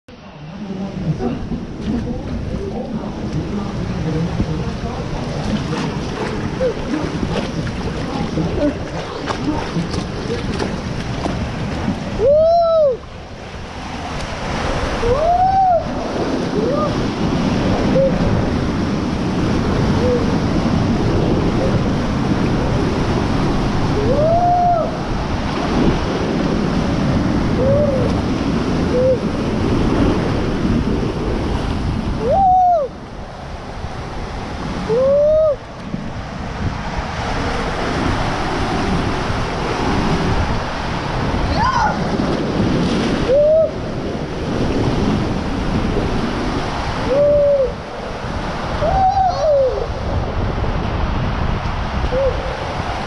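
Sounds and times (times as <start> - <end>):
water rushing and splashing: 0.1 - 53.0
wind noise on microphone: 0.1 - 53.0.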